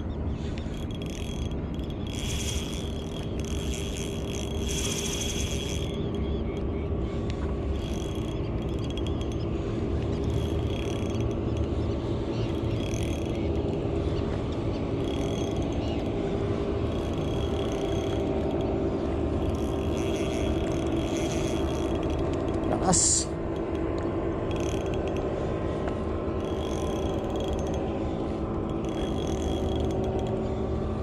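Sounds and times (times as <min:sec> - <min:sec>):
fishing reel being cranked: 0:00.0 - 0:25.5, 0:26.3 - 0:30.7
boat engine running: 0:00.0 - 0:31.0.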